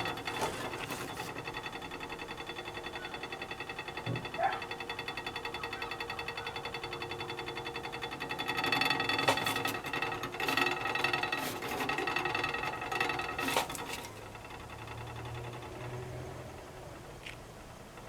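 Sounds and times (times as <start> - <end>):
hot water tank rattling: 0.0 - 16.0.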